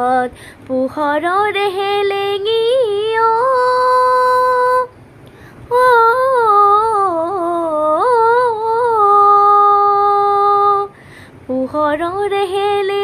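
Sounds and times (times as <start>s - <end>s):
woman singing unaccompanied: 0.0s - 5.0s, 5.7s - 13.0s.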